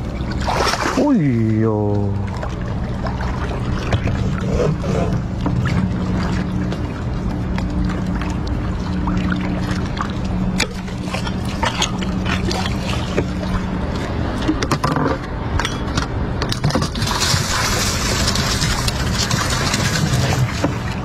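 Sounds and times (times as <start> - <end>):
boat motor running: 0.0 - 21.0
water sounds: 0.0 - 21.0.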